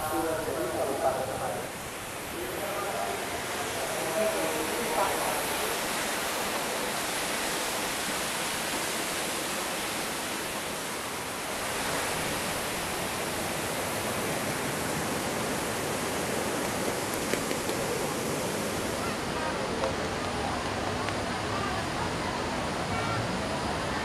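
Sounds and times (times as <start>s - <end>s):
flowing water rushing: 0.0s - 24.0s.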